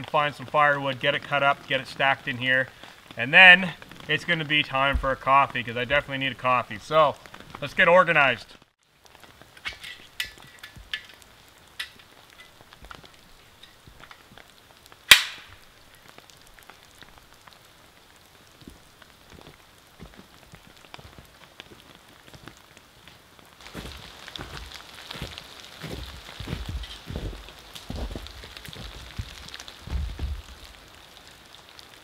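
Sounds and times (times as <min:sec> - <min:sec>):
rain drops ticking: 0:00.0 - 0:32.0.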